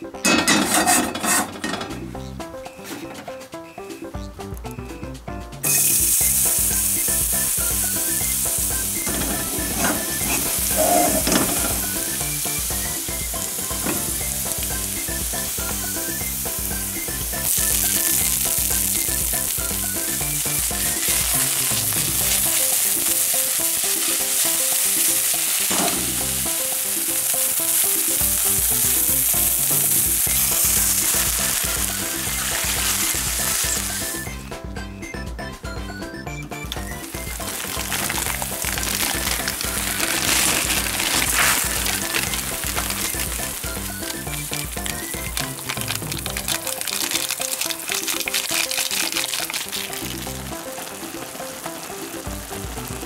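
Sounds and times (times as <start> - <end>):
garlic sizzling in hot oil: 5.6 - 34.5, 36.9 - 53.0.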